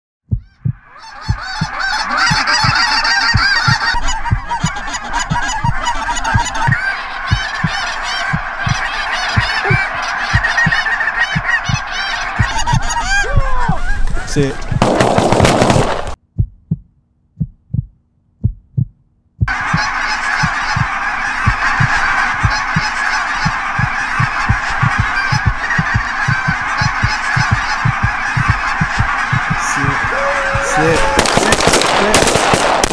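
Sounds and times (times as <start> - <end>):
low thumping: 0.3 - 32.9
flock of geese honking: 0.9 - 14.8, 19.5 - 32.3.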